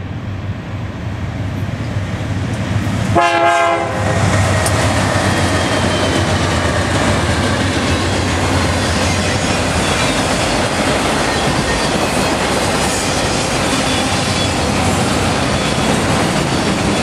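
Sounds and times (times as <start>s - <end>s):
diesel locomotive engine drone: 0.0s - 17.0s
wheels clickety-clack on rails: 1.4s - 17.0s.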